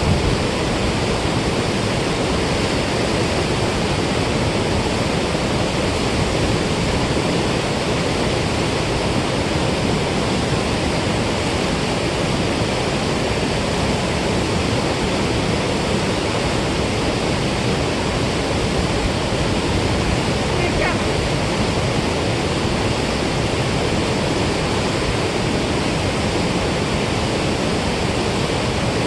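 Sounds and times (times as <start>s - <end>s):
water rushing through spillway: 0.0s - 29.0s.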